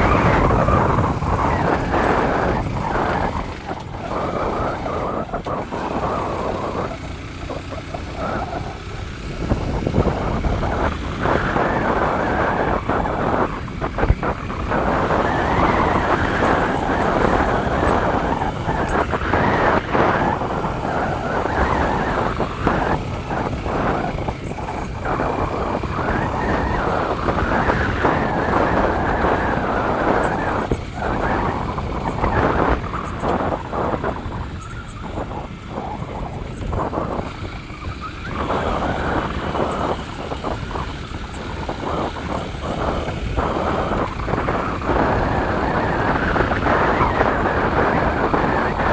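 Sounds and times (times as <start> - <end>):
vehicle on unpaved road: 0.0 - 48.9.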